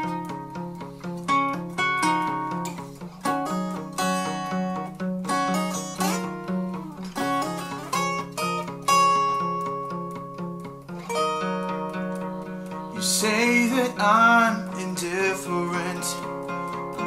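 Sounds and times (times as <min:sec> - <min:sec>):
acoustic guitars fingerpicking: 0:00.0 - 0:17.0.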